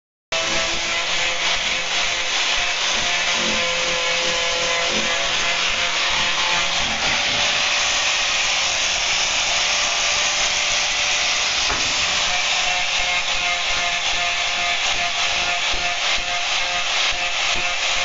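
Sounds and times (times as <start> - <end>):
angle grinder sanding wood: 0.3 - 18.0.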